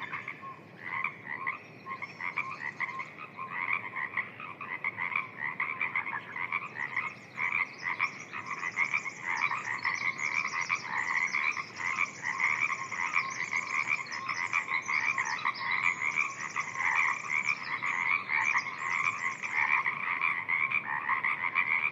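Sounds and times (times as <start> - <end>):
chorus of frogs calling: 0.0 - 21.9.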